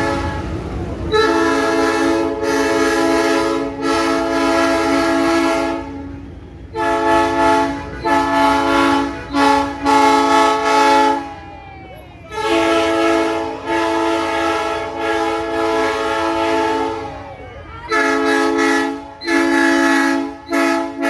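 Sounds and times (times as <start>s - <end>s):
train horn blasts: 0.0s - 21.0s.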